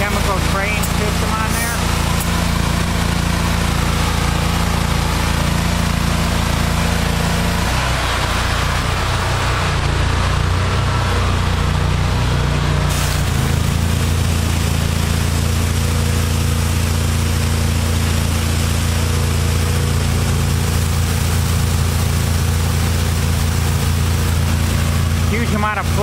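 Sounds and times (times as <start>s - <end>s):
pressure washer engine running: 0.0s - 26.0s.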